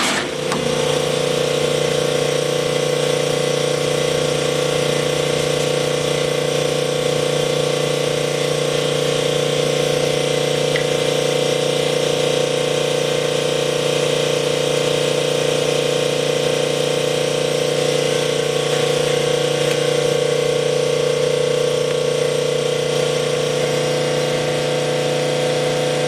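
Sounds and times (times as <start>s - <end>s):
honing machine humming: 0.0s - 26.0s.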